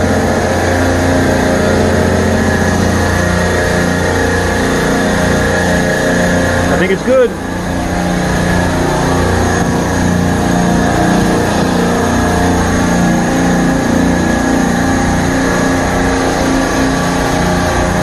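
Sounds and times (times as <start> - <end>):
refrigeration compressors humming: 0.0 - 18.0.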